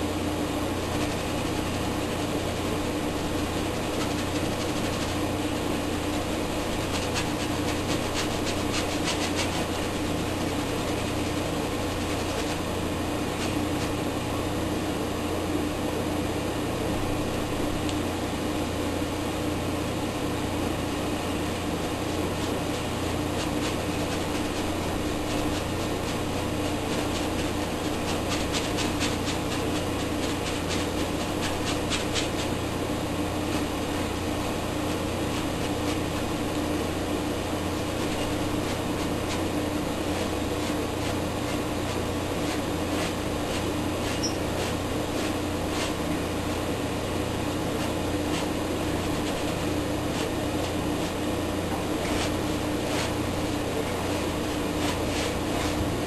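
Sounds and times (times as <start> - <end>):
mechanical hum: 0.0 - 56.0
brush scratching on canvas: 0.8 - 14.0, 21.8 - 46.5, 47.4 - 56.0.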